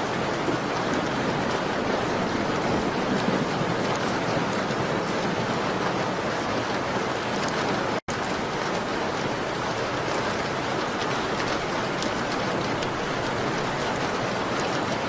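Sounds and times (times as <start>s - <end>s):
rain on a window: 0.0s - 15.0s.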